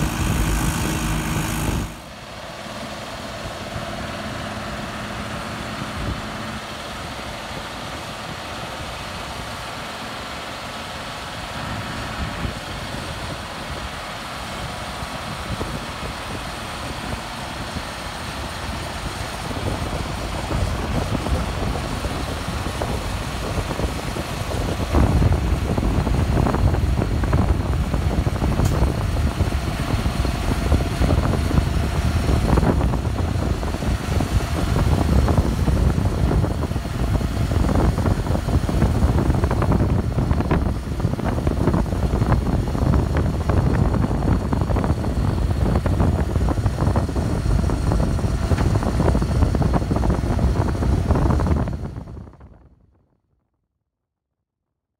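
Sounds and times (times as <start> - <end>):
tractor engine running: 0.0 - 52.3
wind buffeting microphone: 0.0 - 52.7.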